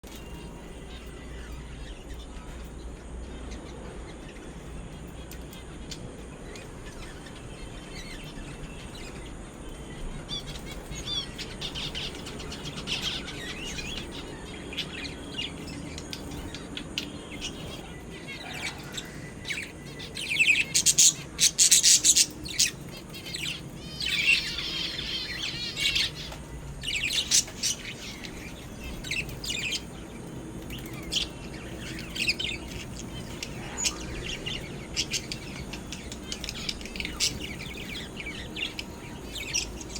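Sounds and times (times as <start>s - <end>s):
zebra finches chirping: 0.0s - 39.9s.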